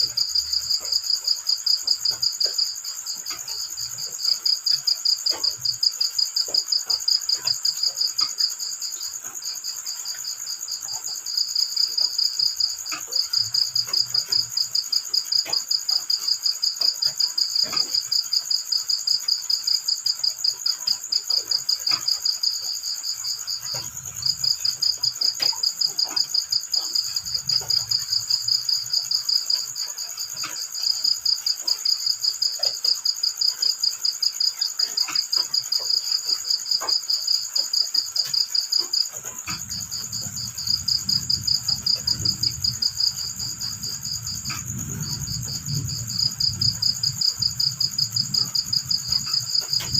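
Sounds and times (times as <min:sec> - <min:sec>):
crickets chirping: 0:00.0 - 0:49.9
high insect drone: 0:00.0 - 0:49.9.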